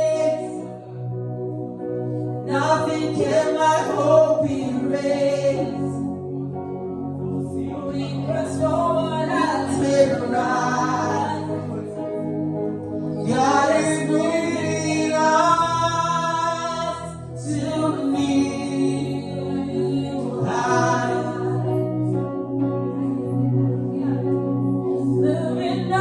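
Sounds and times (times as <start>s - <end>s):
gospel vocals: 0.0s - 26.0s
instrumental backing: 0.0s - 26.0s.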